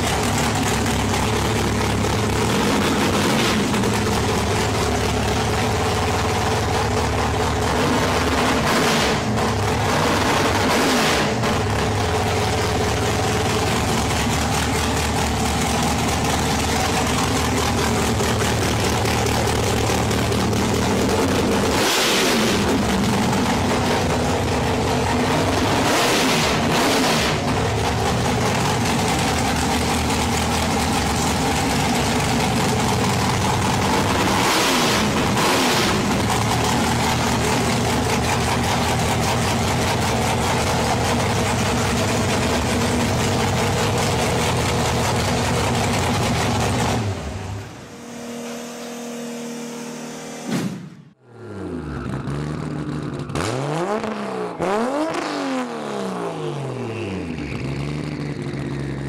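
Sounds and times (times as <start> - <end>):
engine idling and revving: 0.0 - 59.0.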